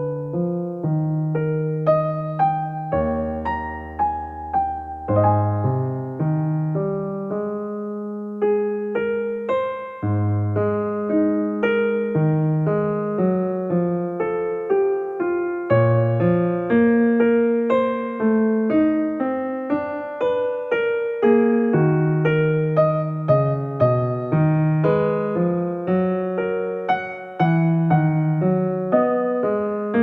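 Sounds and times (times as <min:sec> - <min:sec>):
soft piano music: 0:00.0 - 0:30.0.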